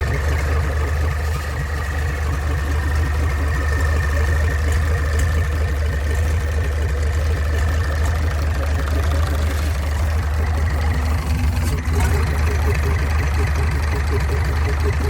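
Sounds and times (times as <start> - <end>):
diesel engine idling: 0.0 - 15.0
thin steady whine: 0.0 - 15.0.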